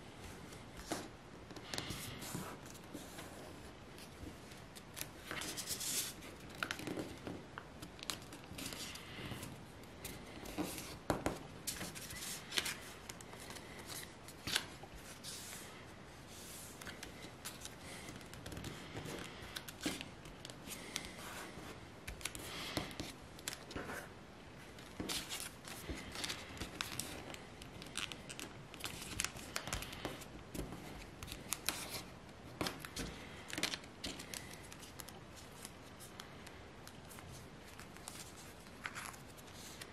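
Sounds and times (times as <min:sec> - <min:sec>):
paper rustling and creasing: 0:00.4 - 0:39.9.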